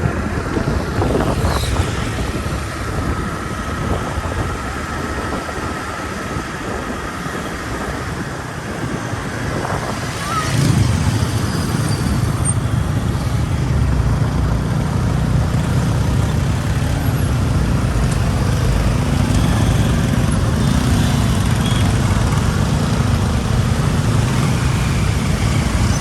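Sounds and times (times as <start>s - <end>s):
low rumble of road traffic: 0.0s - 26.0s.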